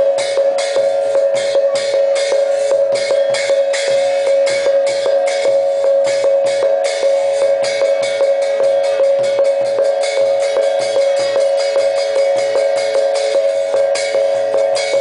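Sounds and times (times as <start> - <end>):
music with quick drumbeat: 0.0 - 15.0.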